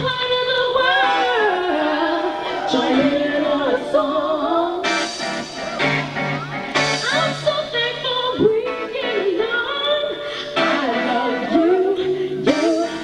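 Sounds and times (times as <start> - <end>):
woman singing: 0.0 - 5.1, 6.9 - 13.0
band playing: 0.0 - 13.0.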